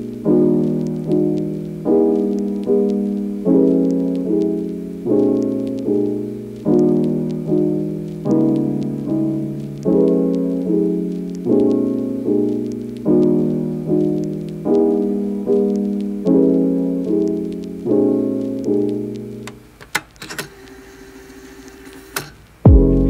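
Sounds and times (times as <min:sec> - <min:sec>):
piano chords: 0:00.0 - 0:19.8.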